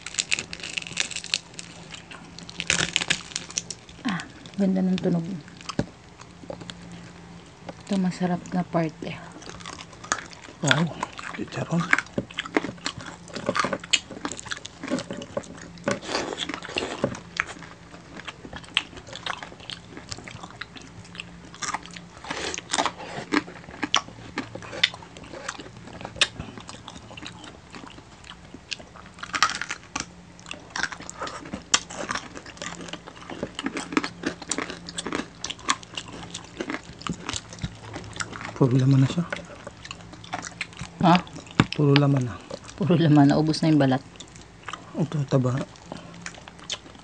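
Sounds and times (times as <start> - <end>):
crunching fried skin: 0.0 - 47.0
wet chewing: 0.0 - 47.0.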